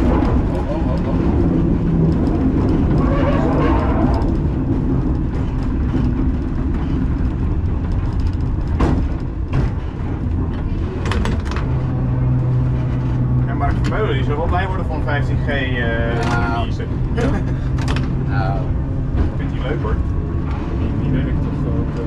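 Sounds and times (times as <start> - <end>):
low hum: 0.0 - 22.0
tram wheels rumbling on rails: 0.0 - 22.0.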